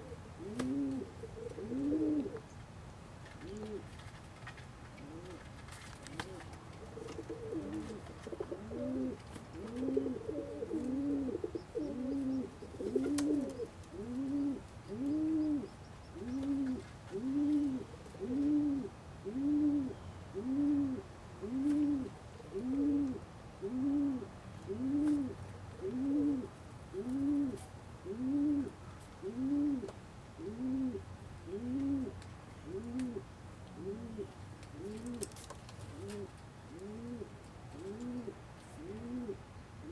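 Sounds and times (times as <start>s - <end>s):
pigeon cooing: 0.0s - 2.4s, 3.4s - 4.1s, 5.0s - 39.9s.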